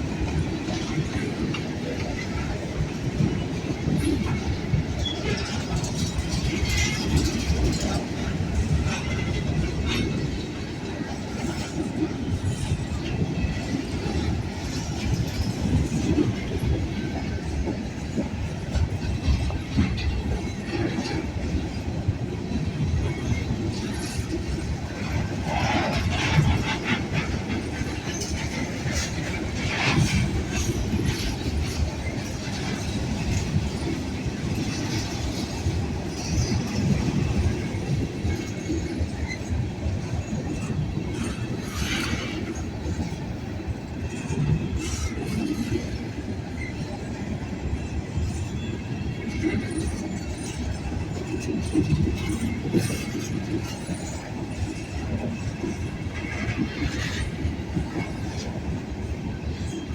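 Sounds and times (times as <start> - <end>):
wheels clattering over rail joints: 0.0 - 46.9, 47.7 - 58.6
freight train rumbling past: 0.0 - 59.9.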